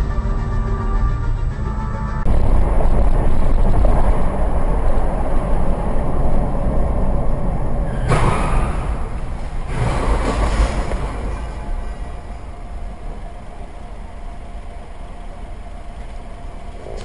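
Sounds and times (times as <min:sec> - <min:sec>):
vehicle engine and road noise: 0:00.0 - 0:17.0
rushes of passing noise: 0:02.2 - 0:17.0.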